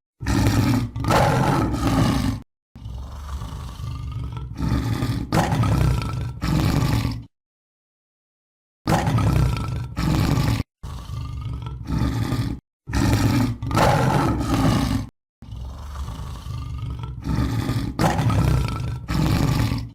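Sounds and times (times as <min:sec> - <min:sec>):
deep tiger roars: 0:00.2 - 0:07.3, 0:08.9 - 0:19.9.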